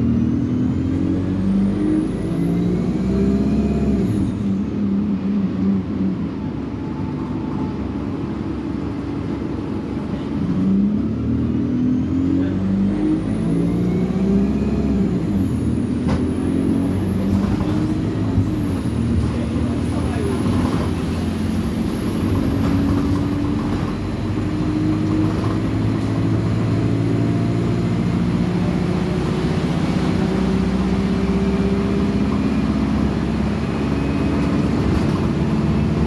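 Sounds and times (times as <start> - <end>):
bus engine revving: 0.0 - 36.0.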